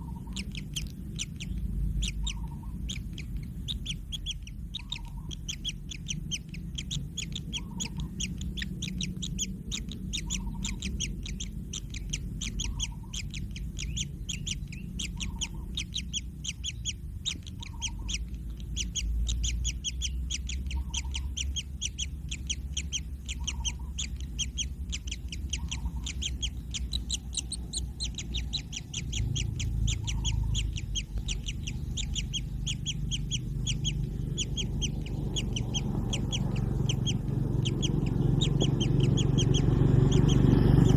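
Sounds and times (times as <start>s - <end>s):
chicks high begging calls: 0.0s - 40.9s.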